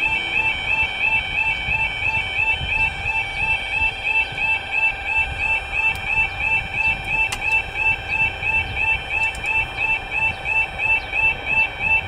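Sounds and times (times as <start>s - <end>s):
level crossing alarm warbling: 0.0s - 12.0s.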